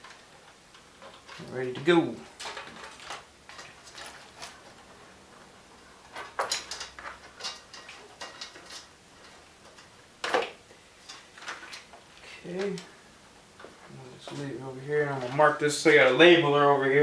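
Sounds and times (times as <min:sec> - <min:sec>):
wiring and parts clicking and rustling: 0:00.0 - 0:16.5.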